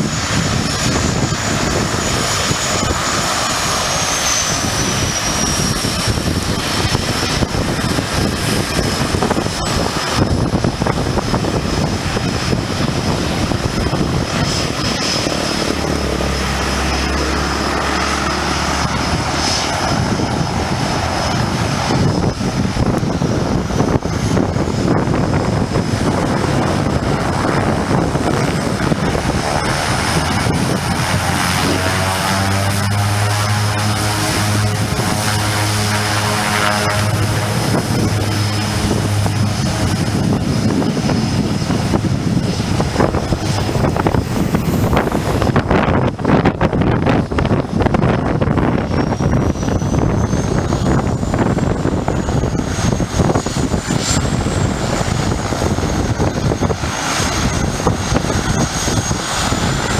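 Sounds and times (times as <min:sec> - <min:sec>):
propeller airplane engine running: 0:00.0 - 0:59.9.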